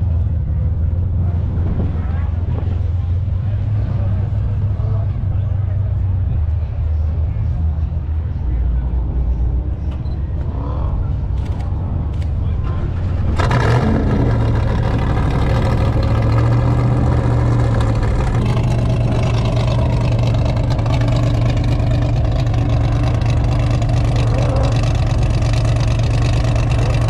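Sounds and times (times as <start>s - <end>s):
vehicle engine running loudly: 0.0s - 27.0s.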